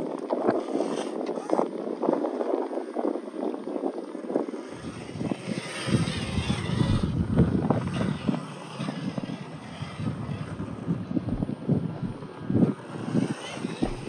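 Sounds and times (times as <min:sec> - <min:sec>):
small electric motor whining: 0:00.0 - 0:14.0
wind buffeting microphone: 0:00.0 - 0:14.0.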